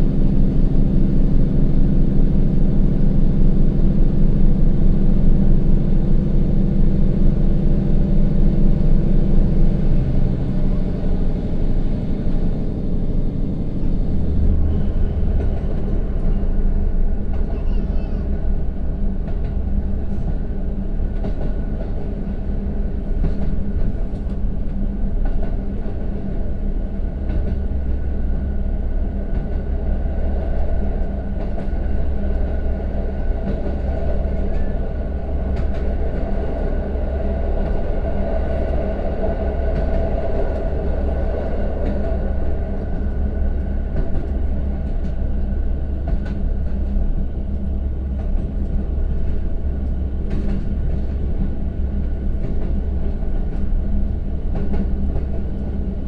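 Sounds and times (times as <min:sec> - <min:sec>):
train wheels rolling on rails: 0:00.0 - 0:56.0.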